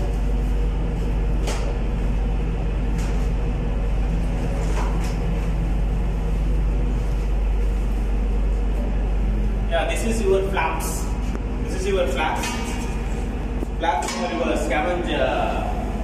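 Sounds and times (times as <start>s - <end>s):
engine room machinery drone: 0.0s - 16.0s.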